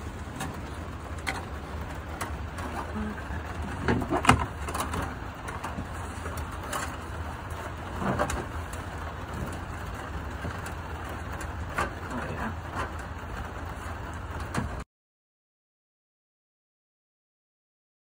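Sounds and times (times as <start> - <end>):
wires rustling against sheet metal: 0.0 - 14.8.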